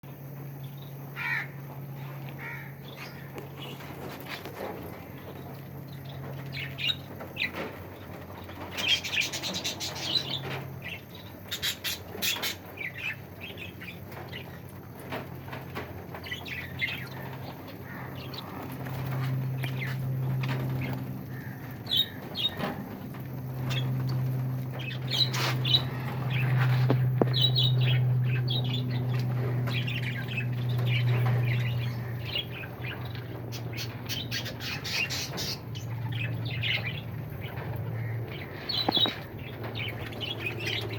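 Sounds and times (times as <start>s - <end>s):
low steady hum: 0.0s - 40.9s
pet birds chirping and squawking: 0.6s - 40.9s.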